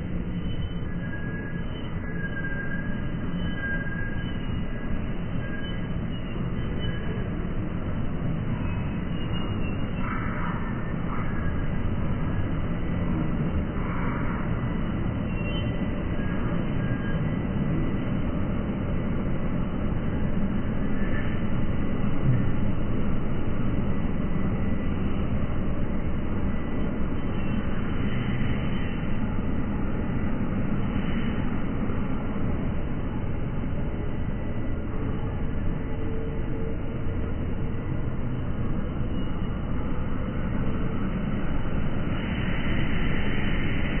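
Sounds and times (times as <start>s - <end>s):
bus engine rumbling: 0.0s - 44.0s
street traffic: 0.0s - 44.0s.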